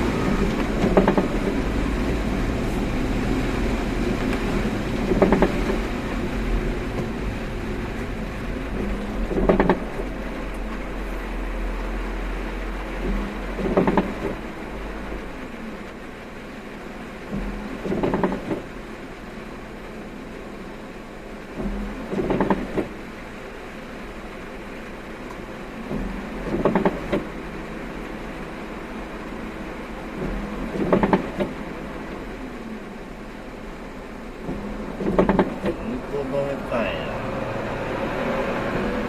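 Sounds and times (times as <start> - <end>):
car driving in rain hum: 0.0 - 39.0
windshield wipers sweeping: 0.0 - 39.0.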